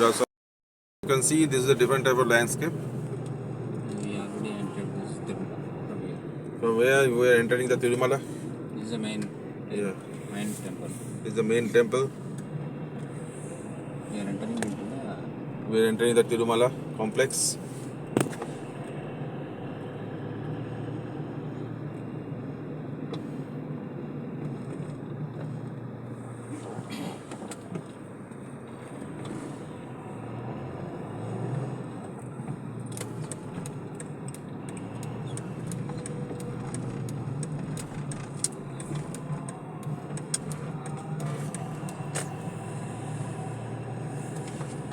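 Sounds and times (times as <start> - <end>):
car engine and road noise: 0.0 - 0.3, 1.0 - 44.9.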